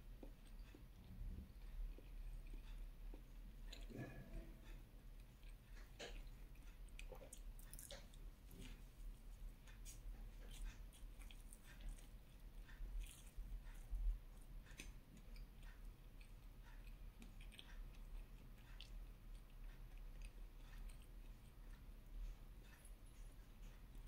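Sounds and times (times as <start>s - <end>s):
chewing mouth sounds: 0.0s - 8.9s, 9.8s - 21.9s.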